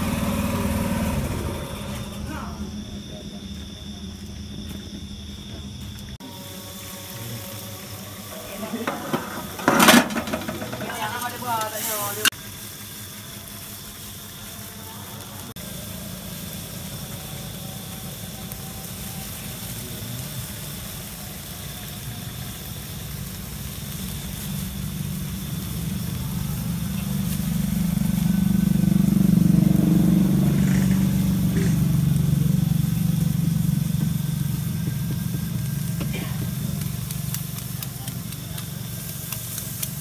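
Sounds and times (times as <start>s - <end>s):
low engine-like drone: 0.0s - 12.4s, 13.0s - 40.0s
noodles sizzling in a wok: 6.2s - 40.0s.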